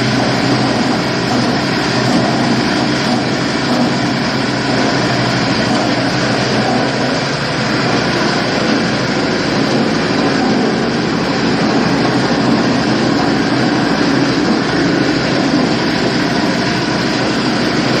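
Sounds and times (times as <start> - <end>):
diesel-driven machine running: 0.0 - 18.0.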